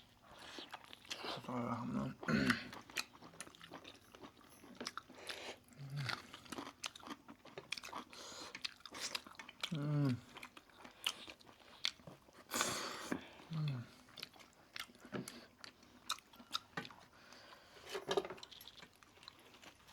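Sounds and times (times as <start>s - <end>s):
food crunching while chewing: 2.4s - 12.5s, 13.1s - 19.9s.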